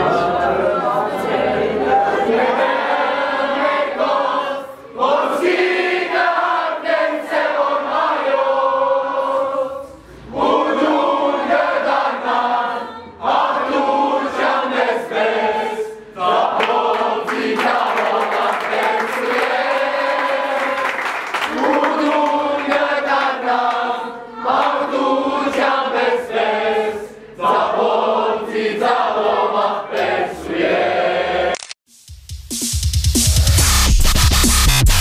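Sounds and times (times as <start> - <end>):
crowd singing in unison: 0.0 - 31.6.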